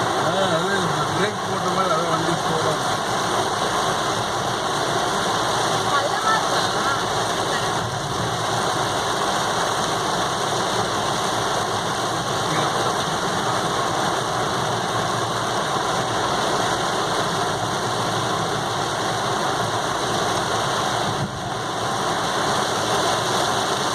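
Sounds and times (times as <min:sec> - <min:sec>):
heavy rain on wet road: 0:00.0 - 0:23.9.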